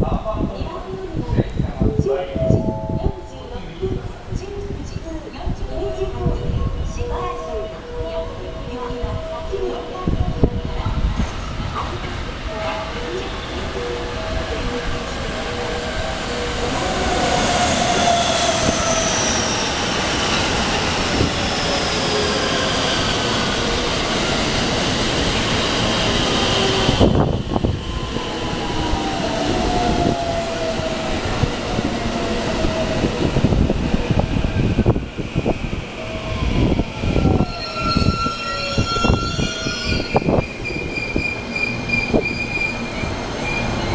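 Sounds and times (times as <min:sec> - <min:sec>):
wheels rumbling on rail: 0:00.0 - 0:43.9.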